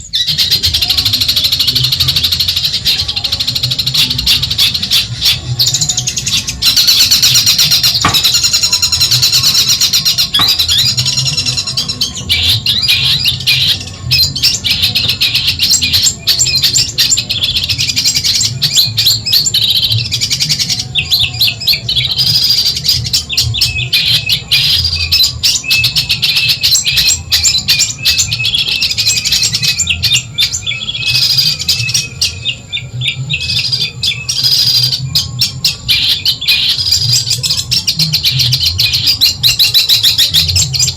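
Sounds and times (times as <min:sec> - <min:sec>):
bird chirping and chattering: 0:00.0 - 0:40.9.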